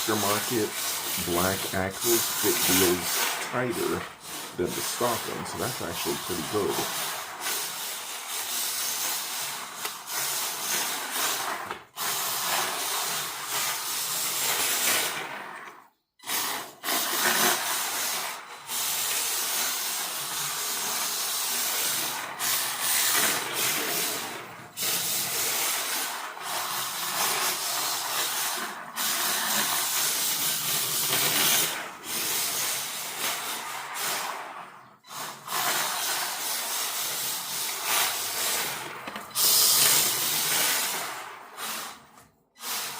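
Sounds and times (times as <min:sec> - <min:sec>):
toy car tyres hissing on floor: 0:00.0 - 0:42.9.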